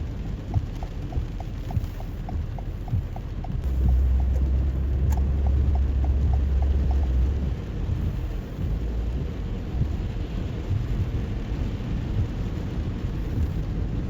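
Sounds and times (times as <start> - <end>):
deep rumble: 0.0 - 14.0
light regular ticking: 0.0 - 14.0
rain on car: 0.0 - 14.0
tyres on wet road: 0.0 - 14.0.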